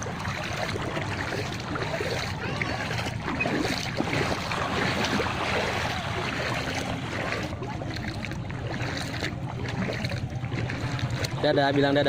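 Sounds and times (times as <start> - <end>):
wind rumbling on microphone: 0.0 - 11.6
floodwater sloshing and rushing: 0.0 - 12.0.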